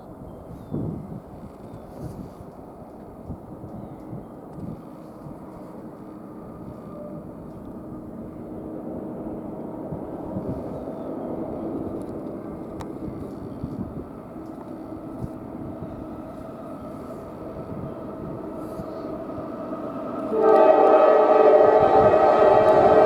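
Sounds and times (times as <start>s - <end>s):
diesel locomotive rumble: 2.5s - 23.0s.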